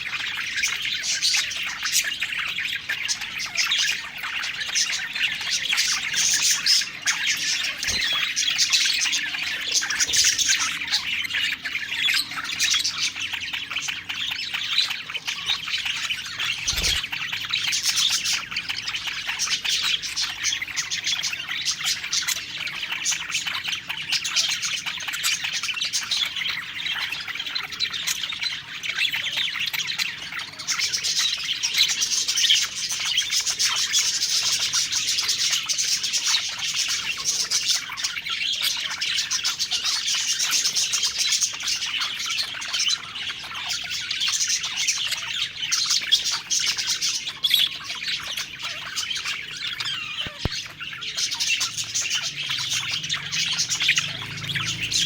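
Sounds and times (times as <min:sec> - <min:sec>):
budgerigars chirping and warbling: 0:00.0 - 0:55.0.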